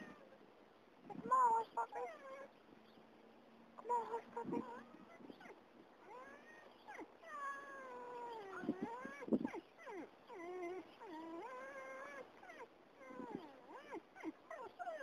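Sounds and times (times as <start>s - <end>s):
dog whining: 0.0s - 0.4s, 1.1s - 2.5s, 3.8s - 15.0s
dog yipping: 1.1s - 2.5s, 3.8s - 15.0s.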